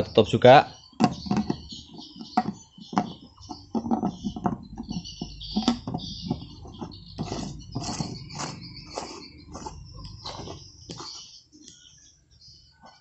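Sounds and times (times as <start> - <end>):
plastic threads scraping and clicking: 1.0 - 11.8.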